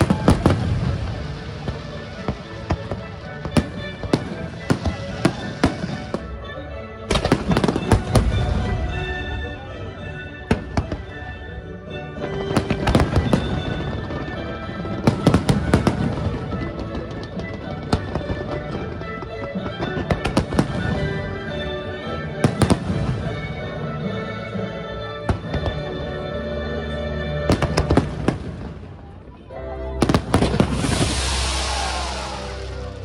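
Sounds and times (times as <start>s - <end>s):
fireworks bangs and crackling: 0.0s - 24.1s, 25.2s - 26.7s, 27.4s - 29.2s, 30.0s - 33.0s
music: 0.0s - 33.0s.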